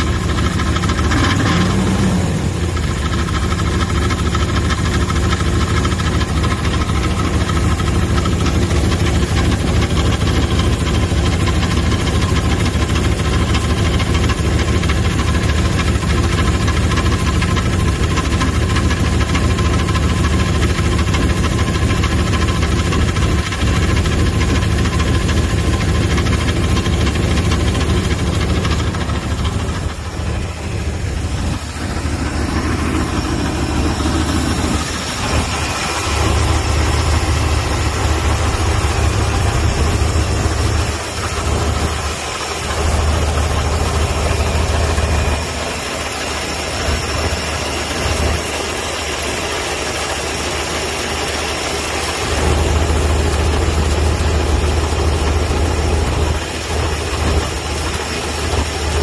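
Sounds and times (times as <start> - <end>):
car engine idling with rattle: 0.0 - 59.0.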